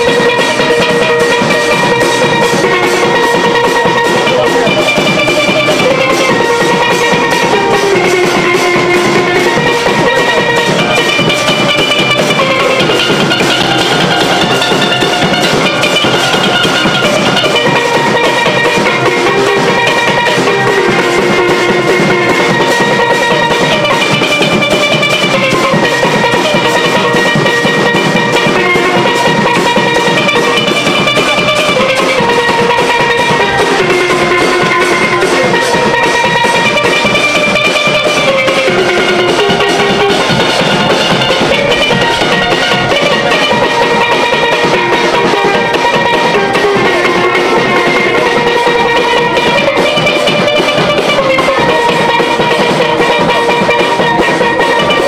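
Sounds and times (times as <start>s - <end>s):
steel band playing: 0.0s - 55.0s.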